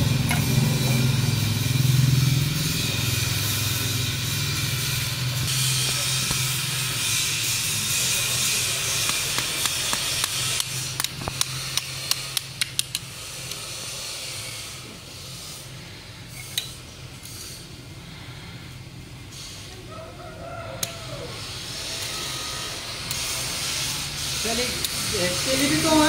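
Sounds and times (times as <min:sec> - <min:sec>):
steady hissing: 0:00.0 - 0:26.0.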